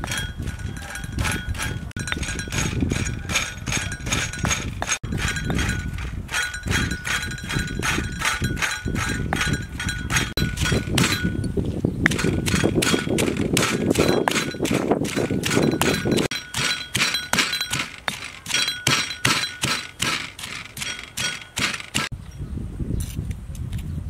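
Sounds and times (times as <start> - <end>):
pestle pounding in stone mortar: 0.0 - 22.1.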